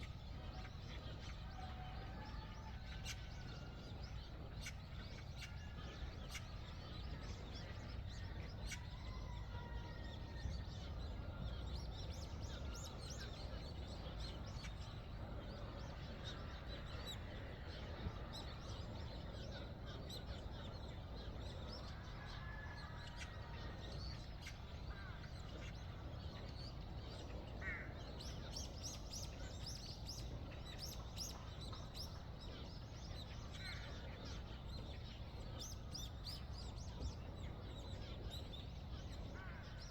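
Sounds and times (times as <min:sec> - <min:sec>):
birds chirping and calling: 0:00.0 - 0:39.9
low background rumble: 0:00.0 - 0:39.9.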